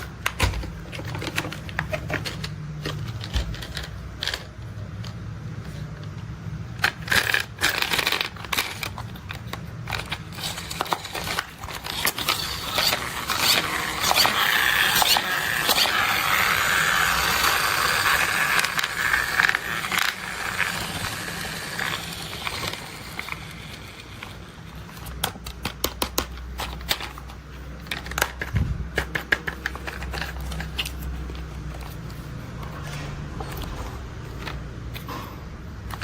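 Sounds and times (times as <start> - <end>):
toy vehicles scraping rattle: 0.0 - 4.8, 6.8 - 36.0.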